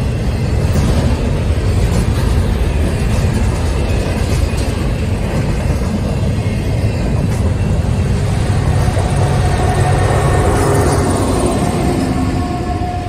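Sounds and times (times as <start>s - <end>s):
diesel locomotive tone: 0.0s - 13.0s
freight train wheels rumbling: 0.0s - 13.0s.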